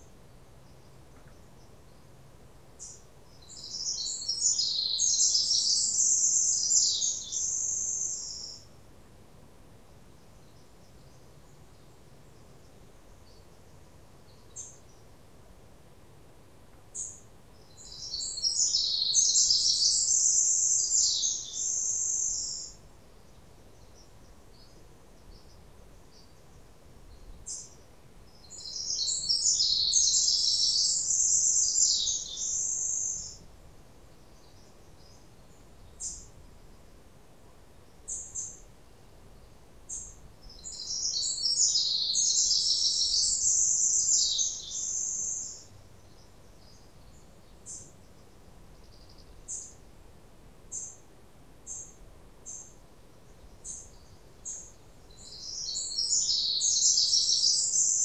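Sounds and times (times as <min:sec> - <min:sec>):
songbird singing high song: 0:00.0 - 0:08.8, 0:10.1 - 0:15.2, 0:16.9 - 0:37.0, 0:37.8 - 0:49.8, 0:50.7 - 0:58.0.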